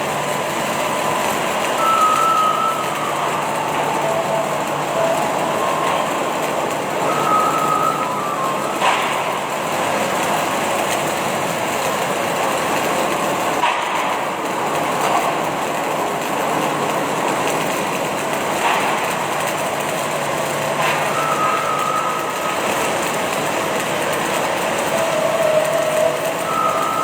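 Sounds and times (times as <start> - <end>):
industrial machinery din: 0.0 - 27.0.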